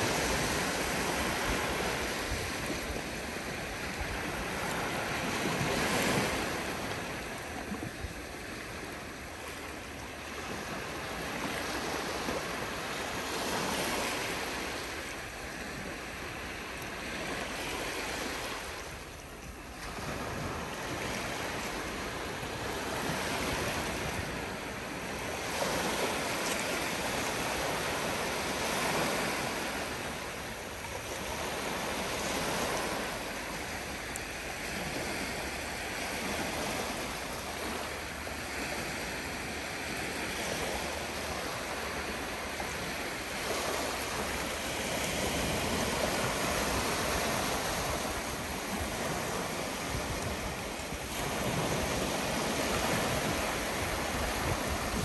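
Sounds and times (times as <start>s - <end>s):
small waves breaking on shore: 0.0s - 55.0s.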